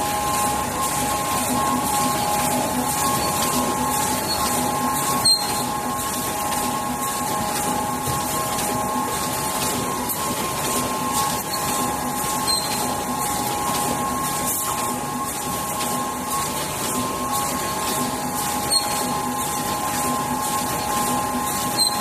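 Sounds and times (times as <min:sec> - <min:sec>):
machine two-tone whine: 0:00.0 - 0:22.0
mechanical hum: 0:00.0 - 0:22.0.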